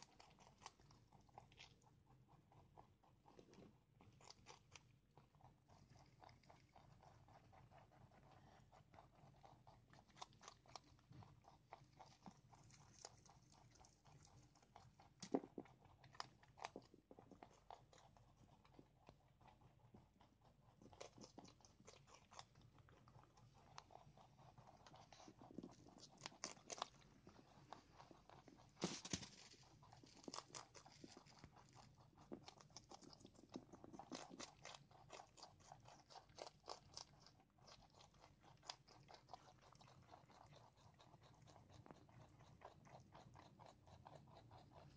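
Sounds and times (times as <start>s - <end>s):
rabbits crunching greens: 0.0s - 44.9s.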